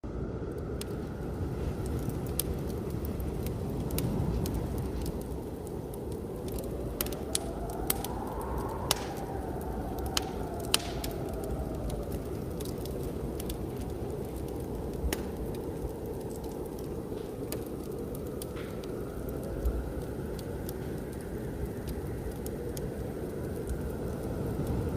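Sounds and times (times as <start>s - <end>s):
blizzard wind roar: 0.0s - 24.9s
wood fire crackling: 0.0s - 24.9s.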